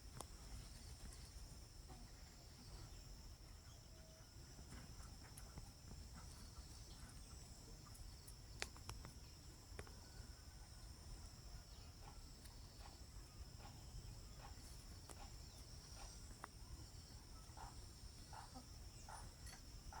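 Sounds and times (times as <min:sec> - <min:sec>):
faint bird chirps: 0:00.0 - 0:20.0
insect trill: 0:00.0 - 0:20.0.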